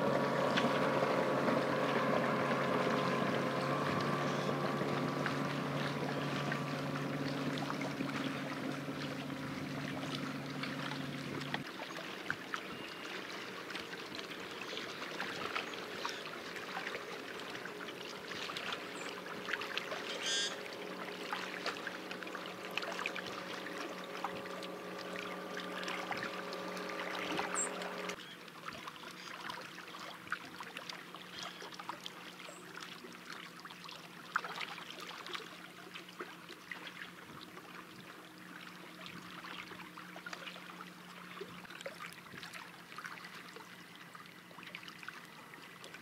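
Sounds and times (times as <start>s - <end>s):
boat motor humming: 0.0s - 34.3s, 35.5s - 46.0s
small waves lapping and splashing: 0.0s - 46.0s.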